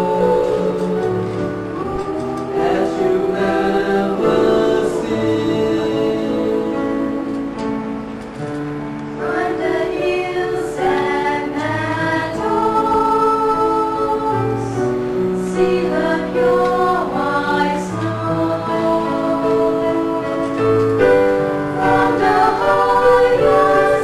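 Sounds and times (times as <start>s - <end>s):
church choir singing in parts: 0.0s - 24.0s.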